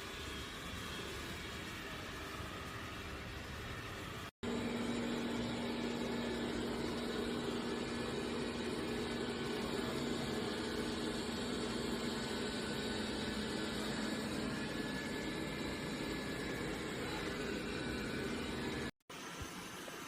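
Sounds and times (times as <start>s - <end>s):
robot vacuum running: 0.0s - 20.0s.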